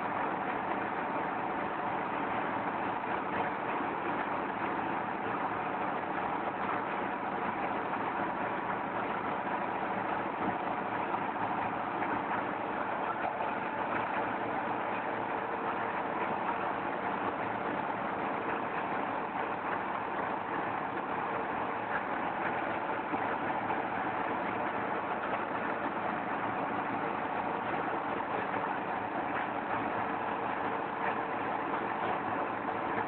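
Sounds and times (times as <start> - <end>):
brick extruding machine running: 0.0 - 33.0.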